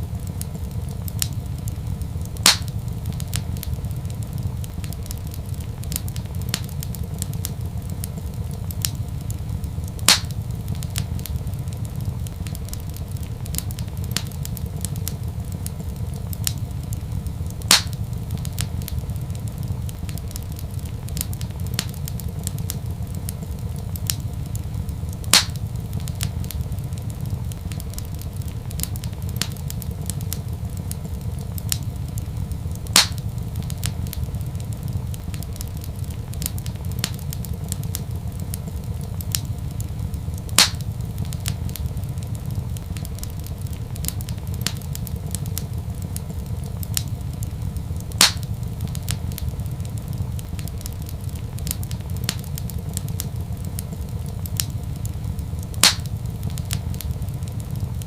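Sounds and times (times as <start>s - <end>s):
low rumble of fire: 0.0s - 58.0s
wood fire crackling: 0.0s - 58.0s
sharp loud pops from fire: 0.2s - 58.0s.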